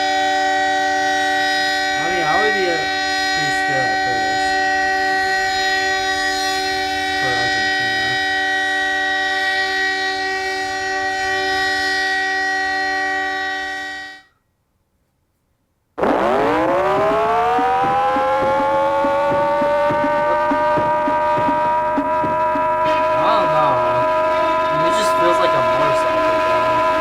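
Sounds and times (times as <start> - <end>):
siren winding up: 0.0 - 14.2, 16.0 - 27.0
alarm chord of held tones: 0.0 - 14.3, 16.2 - 27.0.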